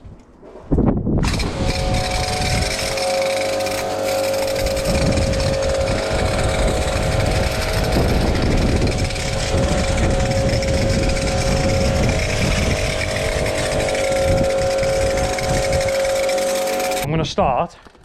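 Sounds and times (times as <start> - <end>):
pressure washer motor whine: 1.2 - 17.1.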